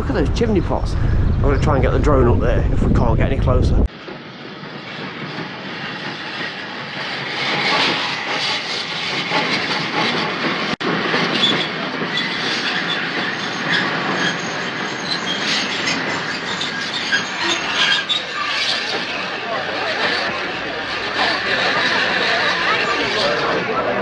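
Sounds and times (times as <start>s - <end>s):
train wheels running on rails: 3.8s - 24.0s.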